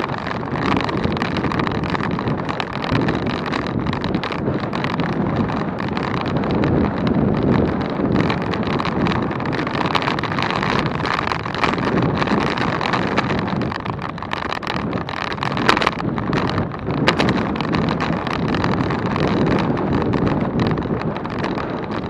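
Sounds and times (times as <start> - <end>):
wind roaring on microphone: 0.0 - 22.0.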